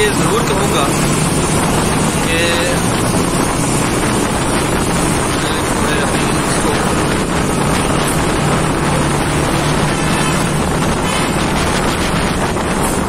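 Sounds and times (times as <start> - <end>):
low engine hum: 0.0 - 13.0
tyres hissing on wet road: 0.0 - 13.0
wind rushing over microphone: 0.0 - 13.0.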